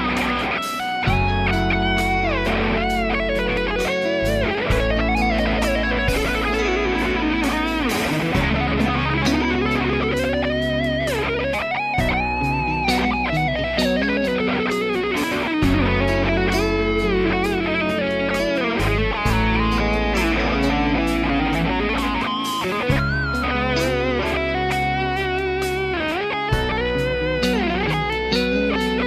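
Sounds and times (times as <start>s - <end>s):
electric guitar lead lines: 0.0s - 29.0s
low sustained notes: 0.0s - 29.0s.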